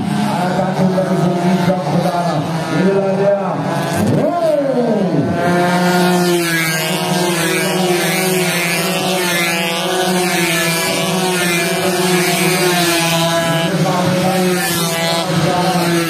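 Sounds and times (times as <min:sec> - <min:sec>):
motorcycles racing at high revs: 0:00.0 - 0:16.0.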